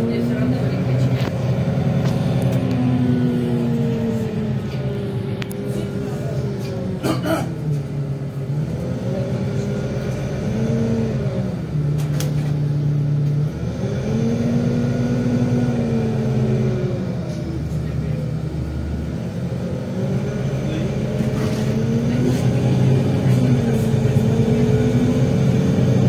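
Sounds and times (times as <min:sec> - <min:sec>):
bus engine rising and falling: 0:00.0 - 0:26.0.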